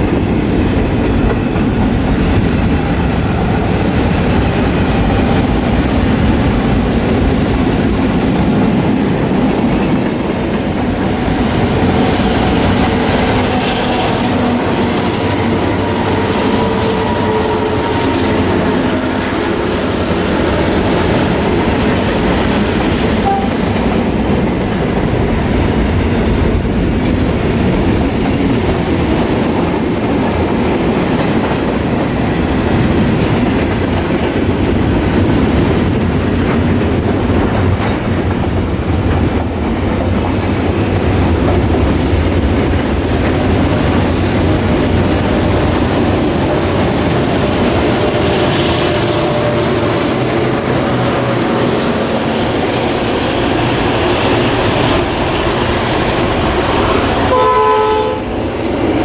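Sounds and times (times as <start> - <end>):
clickety-clack over rail joints: 0.0 - 57.6
train wheels rumbling on rail: 0.0 - 59.0.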